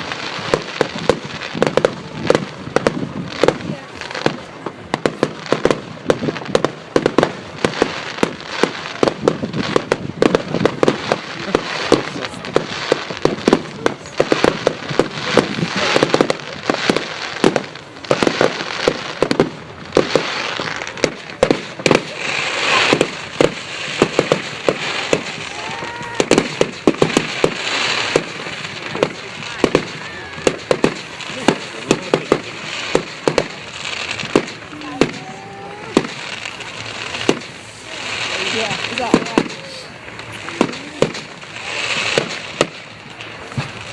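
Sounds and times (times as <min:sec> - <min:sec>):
fireworks bangs and pops: 0:00.0 - 0:43.9
fireworks crackling hiss: 0:00.0 - 0:43.9.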